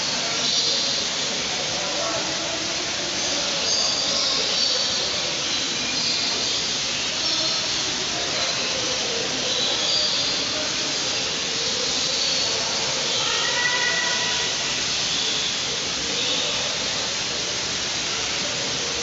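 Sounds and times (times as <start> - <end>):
rushing hiss: 0.0 - 19.0.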